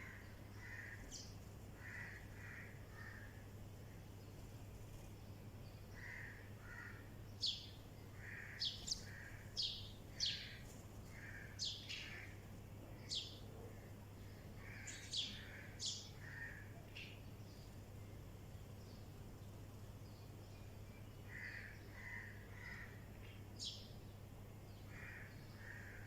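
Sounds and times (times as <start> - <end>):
soft low bird calls: 0.0 - 5.3, 5.9 - 26.0
birds chirping: 0.0 - 26.0.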